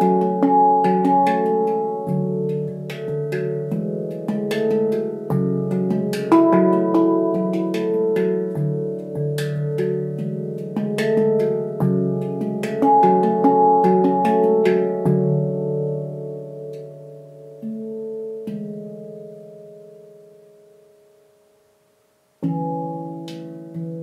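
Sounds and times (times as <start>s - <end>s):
handpan notes ringing: 0.0s - 21.4s, 22.4s - 24.0s.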